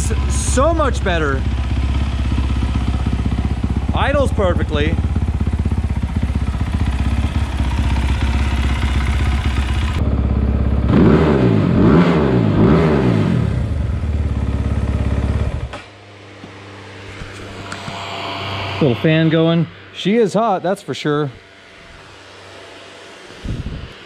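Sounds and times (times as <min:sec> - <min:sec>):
dirt bike engine idling and revving: 0:00.0 - 0:20.2.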